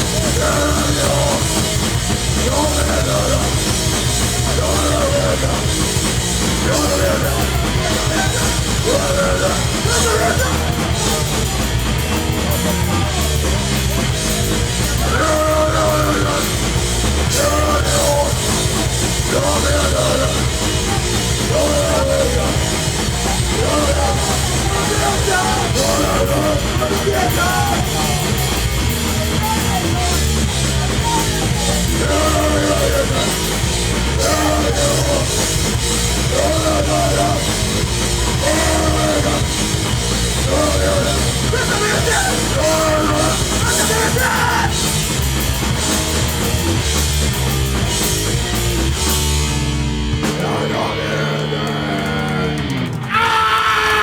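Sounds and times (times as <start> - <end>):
drum kit with cymbals: 0.0 - 50.6
bass guitar: 0.0 - 54.0
distorted electric guitars: 0.0 - 54.0.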